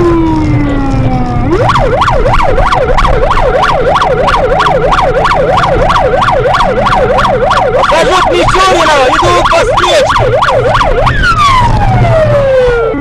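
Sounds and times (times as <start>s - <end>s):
police siren yelping: 0.0s - 13.0s.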